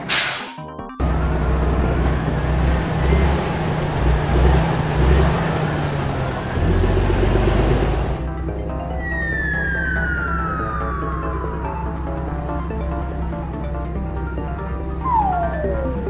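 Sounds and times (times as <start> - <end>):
heavy vehicle engine rumble: 0.0 - 16.0.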